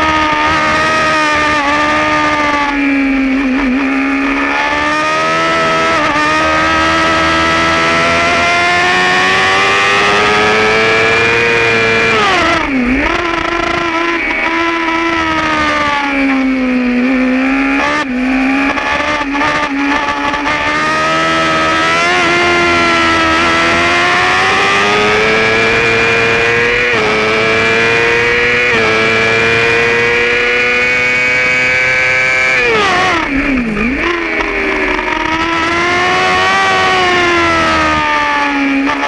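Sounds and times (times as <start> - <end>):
sport bike engine revving with gear shifts: 0.0 - 39.0.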